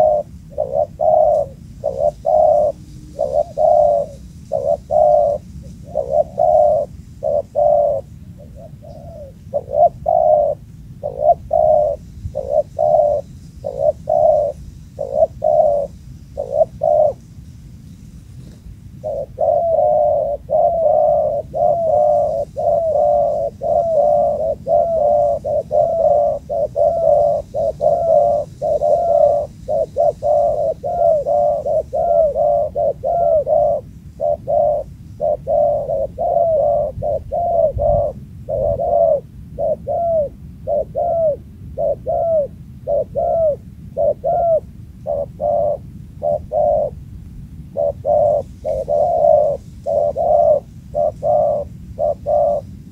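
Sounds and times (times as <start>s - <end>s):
dove cooing: 0.0s - 17.2s, 18.4s - 52.9s.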